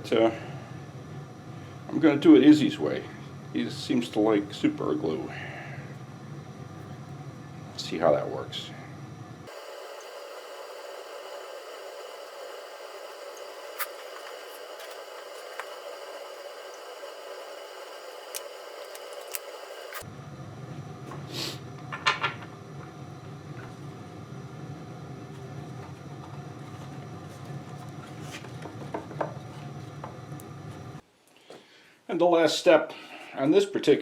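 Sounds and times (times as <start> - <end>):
steady room hum: 0.0 - 34.0.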